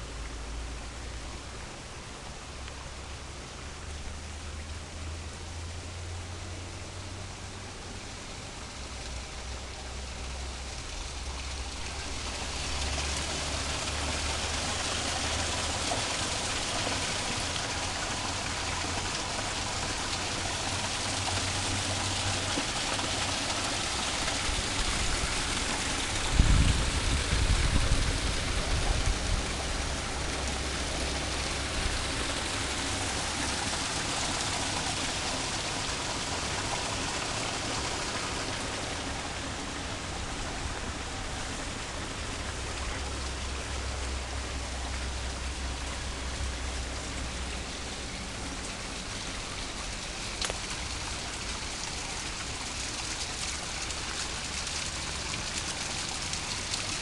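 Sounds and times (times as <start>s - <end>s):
running water hiss: 0.0s - 57.0s.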